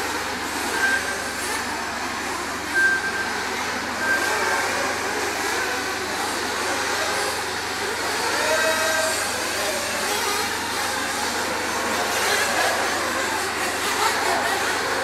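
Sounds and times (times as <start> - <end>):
rc car revving whine: 0.0 - 15.0
small engines buzzing: 0.0 - 15.0.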